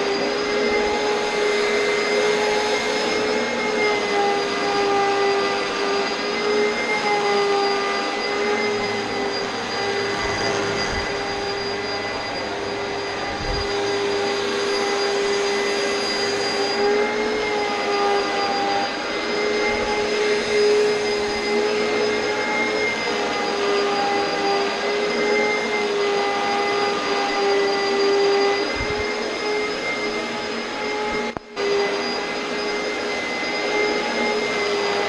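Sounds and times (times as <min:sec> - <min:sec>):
upright vacuum cleaner running: 0:00.0 - 0:35.0.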